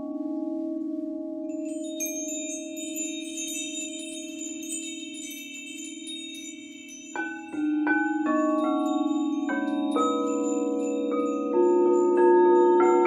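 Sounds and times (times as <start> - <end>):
high chimes tinkling: 1.5 - 13.0
singing bowl humming: 1.6 - 13.0.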